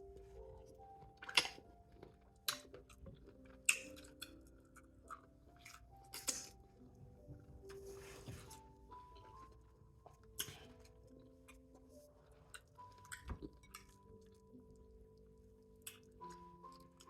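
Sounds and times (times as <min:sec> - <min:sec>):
soft mallet background music: 0:00.0 - 0:17.0.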